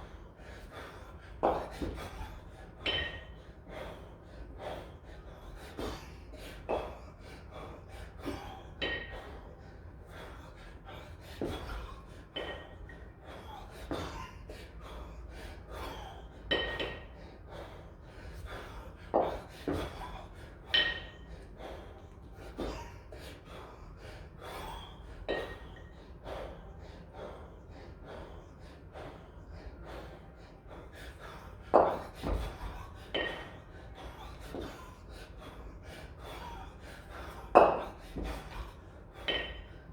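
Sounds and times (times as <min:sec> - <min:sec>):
heavy breathing gasps: 0:00.1 - 0:39.9.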